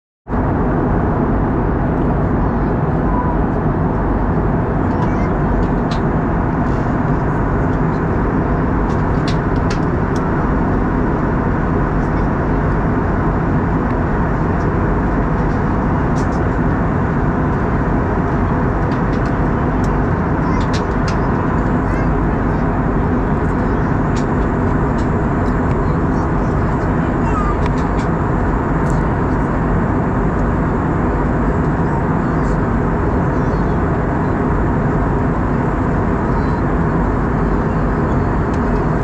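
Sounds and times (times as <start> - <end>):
airflow over fuselage: 0.3 - 39.0
jet engines roaring: 0.3 - 39.0.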